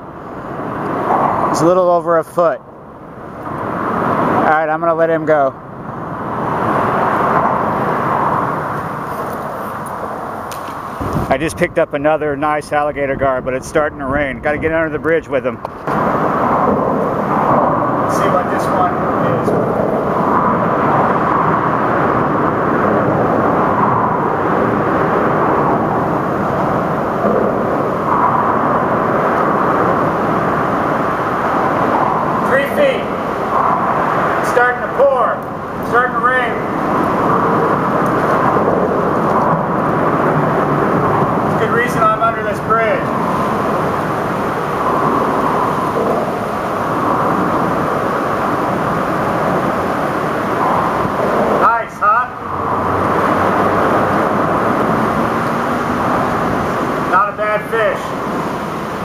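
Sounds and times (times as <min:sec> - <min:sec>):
heavy rain: 0:02.7 - 0:12.7, 0:15.6 - 0:59.0.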